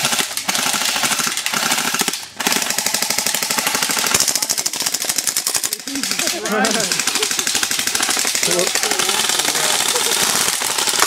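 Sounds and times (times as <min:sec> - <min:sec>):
airsoft guns firing full auto: 0:00.0 - 0:11.0.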